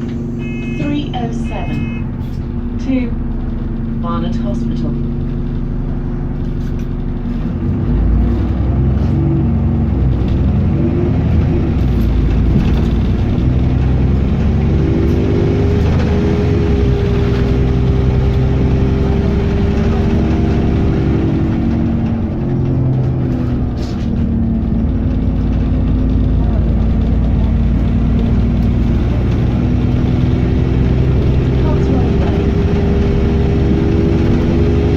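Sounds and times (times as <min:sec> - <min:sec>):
bus engine accelerating: 0:00.0 - 0:34.9.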